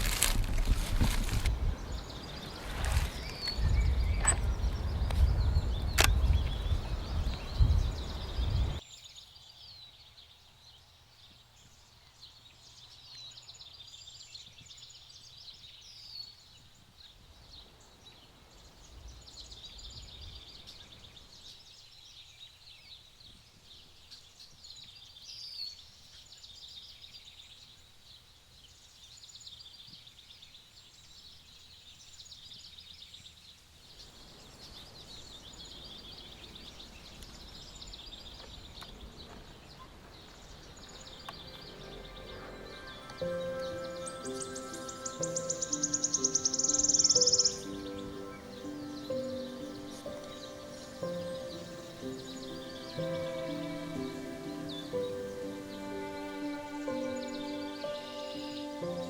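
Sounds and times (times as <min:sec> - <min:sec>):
songbirds singing and chirping: 0:00.0 - 0:59.0.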